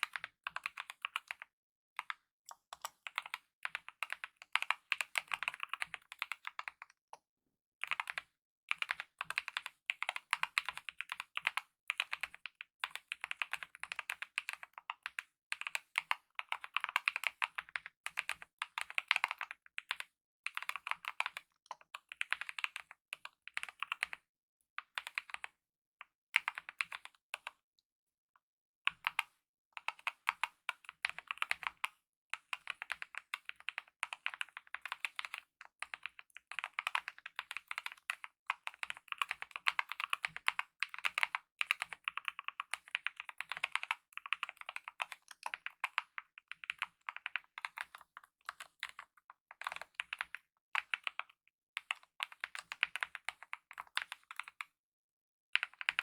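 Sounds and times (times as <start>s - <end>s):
typing on mechanical keyboard: 0.0s - 6.9s, 7.8s - 24.2s, 24.8s - 25.5s, 26.4s - 27.6s, 28.9s - 54.8s, 55.6s - 56.0s.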